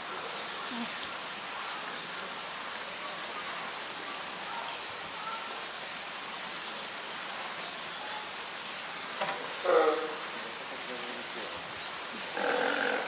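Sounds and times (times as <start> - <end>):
faint distant voices: 0.1 - 13.0.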